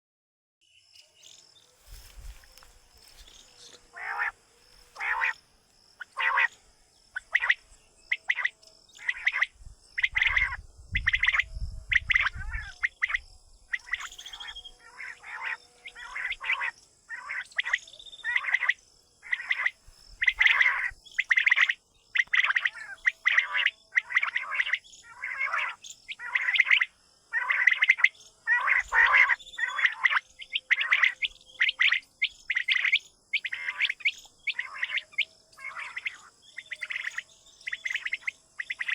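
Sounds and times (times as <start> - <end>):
quail calling: 1.9 - 5.4, 6.0 - 6.6, 7.2 - 38.9.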